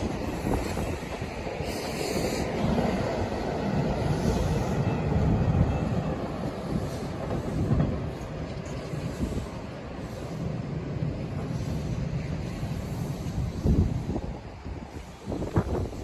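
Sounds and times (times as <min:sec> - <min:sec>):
train wheels rumbling and clacking: 0:00.0 - 0:16.0.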